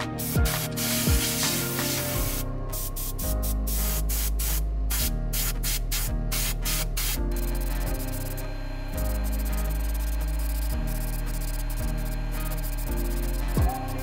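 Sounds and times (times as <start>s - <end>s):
airbrush hissing: 0.0s - 8.5s, 9.1s - 14.0s
background music: 0.0s - 14.0s.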